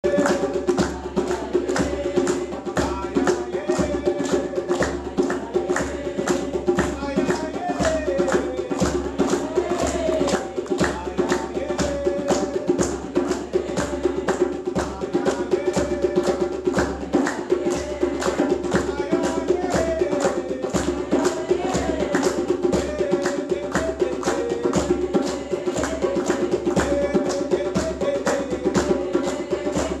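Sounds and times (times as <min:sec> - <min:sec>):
djembe played with hands: 0:00.0 - 0:30.0.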